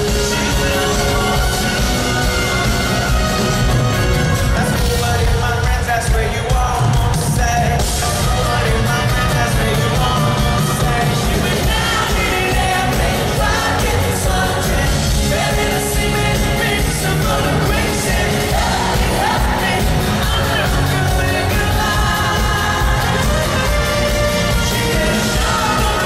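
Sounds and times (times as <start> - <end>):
lead singer singing: 0.0 - 3.5, 4.2 - 26.0
live pop-rock band playing: 0.0 - 26.0.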